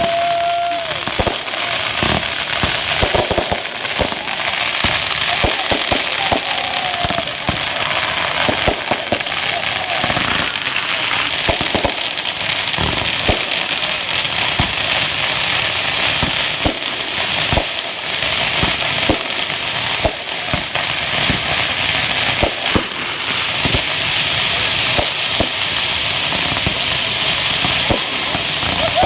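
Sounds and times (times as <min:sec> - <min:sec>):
fireworks fizzing and crackling: 0:00.0 - 0:29.0
fireworks popping: 0:00.0 - 0:29.0.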